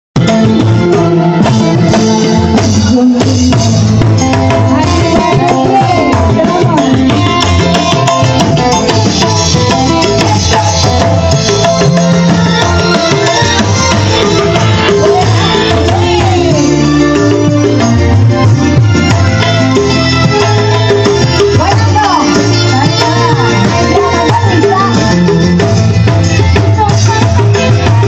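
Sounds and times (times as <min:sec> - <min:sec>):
electric guitar: 0:00.2 - 0:28.0
hand drum rhythm: 0:00.2 - 0:28.0.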